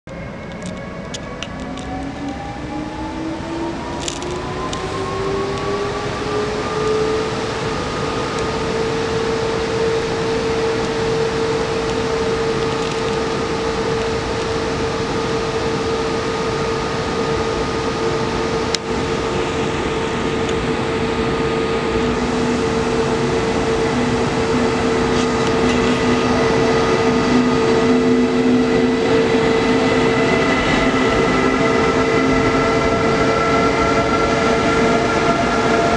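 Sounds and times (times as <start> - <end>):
electric locomotive whine: 0.1 - 35.9
train wheels rumbling on rails: 0.1 - 35.9.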